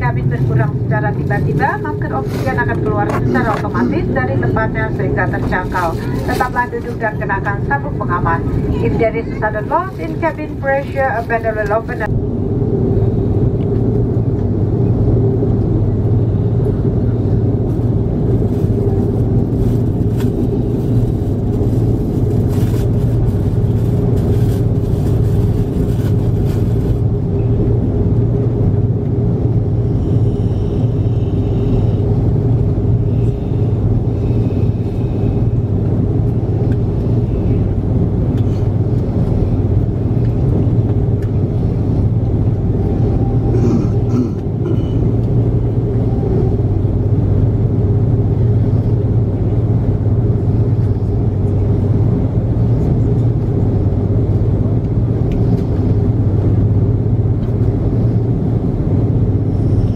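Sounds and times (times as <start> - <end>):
constant droning tone: 0.0 - 59.9
jet engines humming: 0.0 - 59.9.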